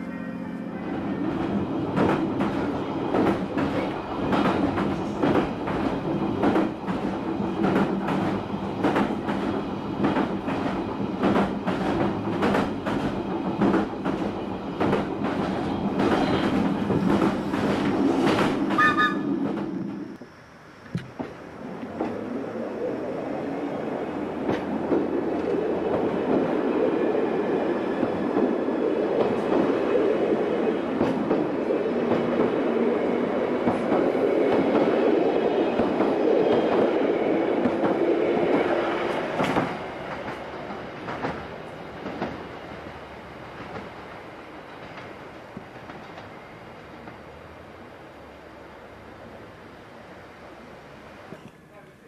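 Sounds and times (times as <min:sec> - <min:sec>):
train rumbling on rails: 0:00.0 - 0:51.8.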